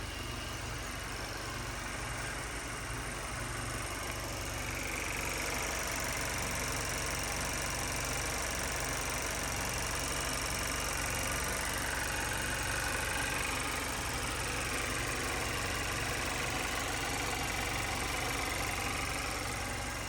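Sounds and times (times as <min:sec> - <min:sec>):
car engine idling: 0:00.0 - 0:20.0
faint engine whine: 0:00.0 - 0:20.0.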